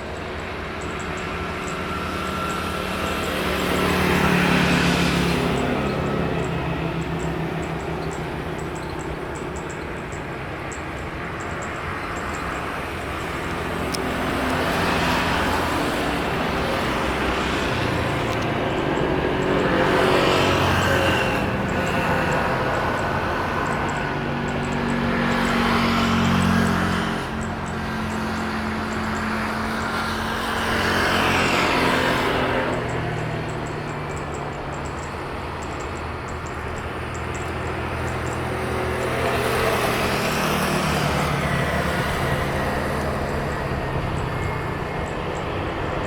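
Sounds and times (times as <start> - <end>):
traffic rumble: 0.0 - 46.0
vehicles passing close by: 0.0 - 46.0.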